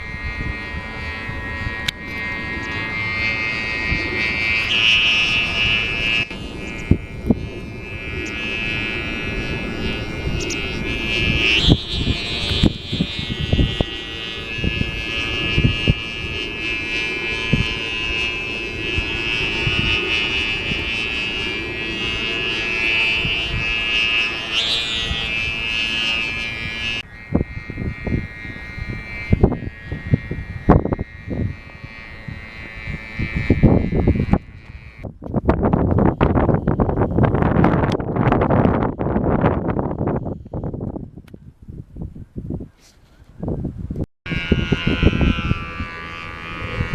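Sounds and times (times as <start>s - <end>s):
kite hummer droning: 0.0s - 46.9s
wind buffeting microphone: 0.0s - 46.9s.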